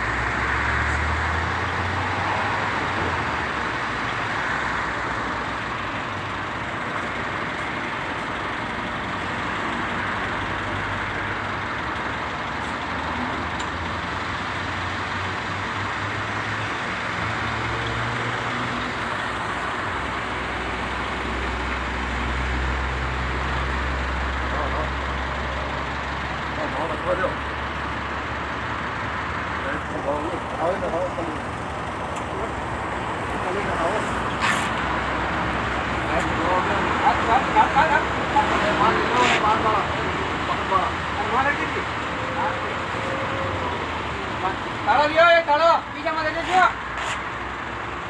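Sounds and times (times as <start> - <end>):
car engine idling: 0.0 - 48.0
street traffic noise: 0.0 - 48.0.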